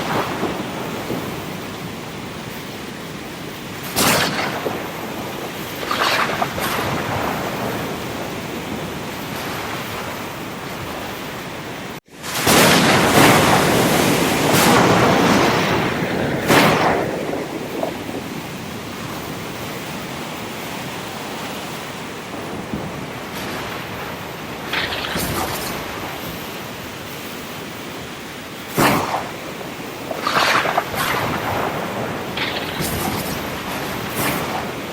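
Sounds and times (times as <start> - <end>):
waves crashing: 0.0 - 34.9
waves washing on shore: 0.0 - 34.9.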